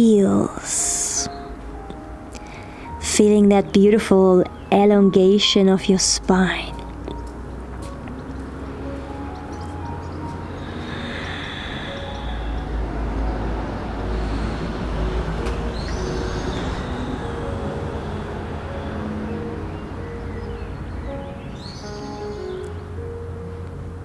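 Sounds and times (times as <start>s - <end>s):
soft background music: 0.0s - 24.0s
bird chirping: 0.8s - 1.6s, 3.5s - 22.8s
low rumble from outside: 1.3s - 24.0s.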